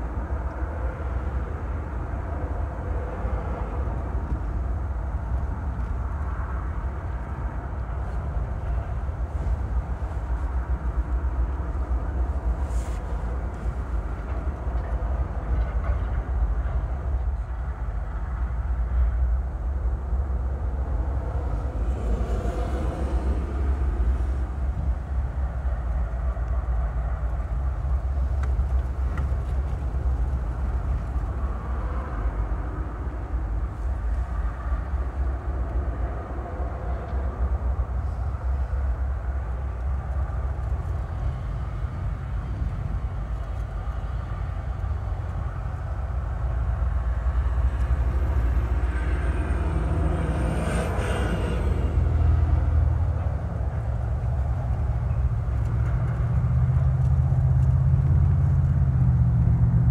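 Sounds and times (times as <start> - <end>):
train cars rumbling over rails: 0.0 - 59.9.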